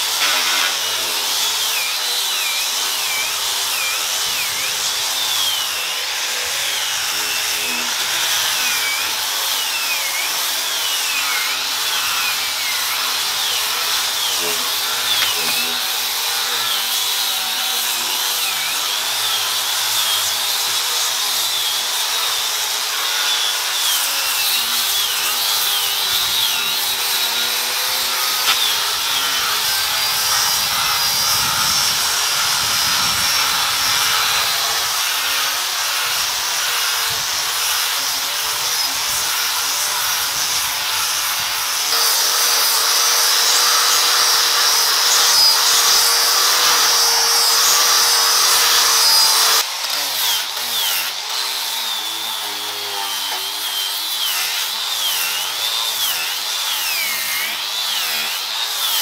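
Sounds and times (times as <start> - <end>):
disc sanders grinding wood: 0.0 - 59.0.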